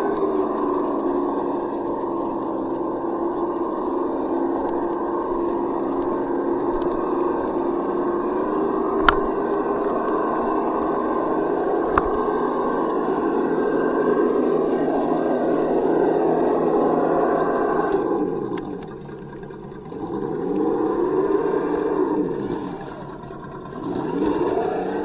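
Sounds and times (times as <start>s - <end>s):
rc car electric motor whining: 0.0s - 25.0s.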